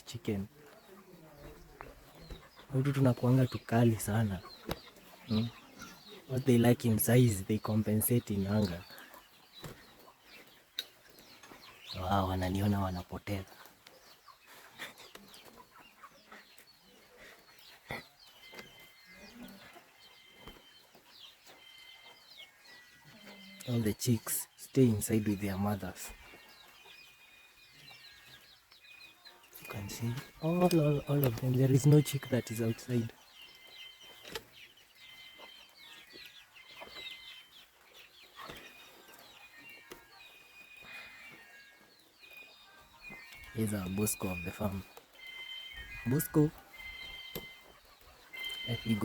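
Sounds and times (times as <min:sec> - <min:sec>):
chickens clucking: 0:00.0 - 0:49.0
chicks peeping: 0:00.0 - 0:49.0.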